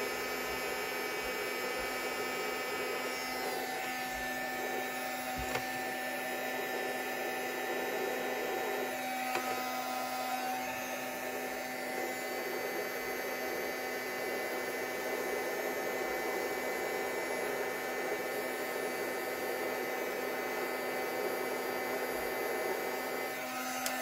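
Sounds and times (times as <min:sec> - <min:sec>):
heat gun blowing air: 0:00.0 - 0:24.0.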